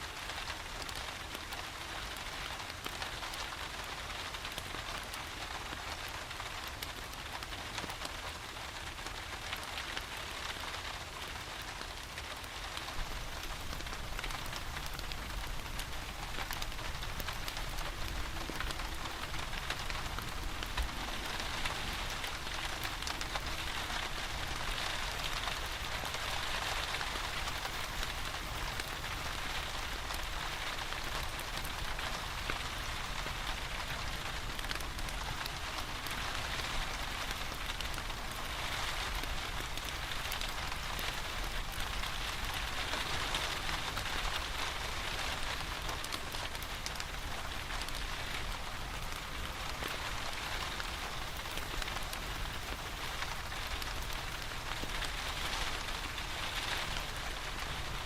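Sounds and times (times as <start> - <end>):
steady rain hissing: 0.0 - 58.0
log fire crackling: 0.1 - 58.0.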